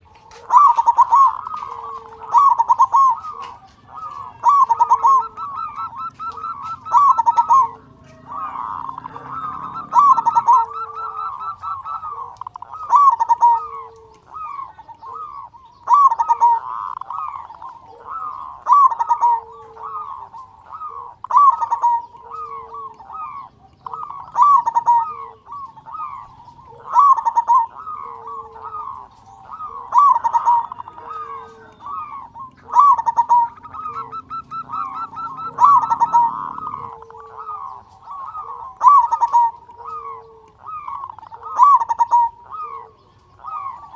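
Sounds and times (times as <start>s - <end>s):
dove cooing: 0.0s - 43.9s
soft trilled bird notes: 0.0s - 43.9s.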